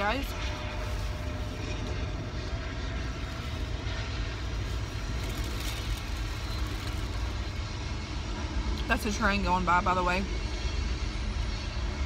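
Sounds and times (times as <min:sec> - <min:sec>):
passing train rumble: 0:00.0 - 0:12.0.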